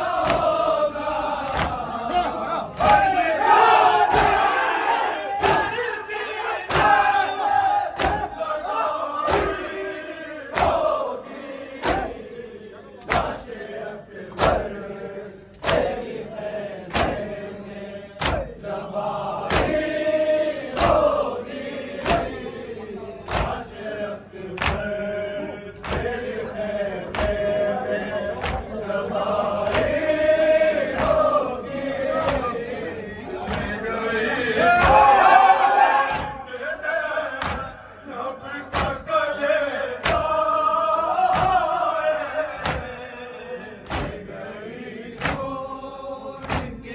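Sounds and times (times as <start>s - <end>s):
crowd beating chests in unison: 0.0s - 46.9s
men chanting a lament: 0.0s - 46.9s.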